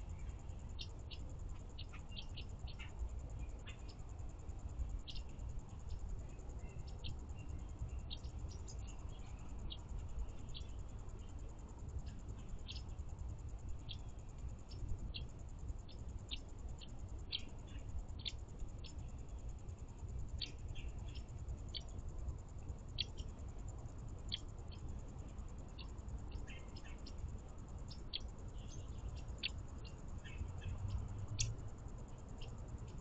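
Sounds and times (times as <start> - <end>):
low background rumble: 0.0 - 33.0
songbirds chip notes: 0.0 - 33.0.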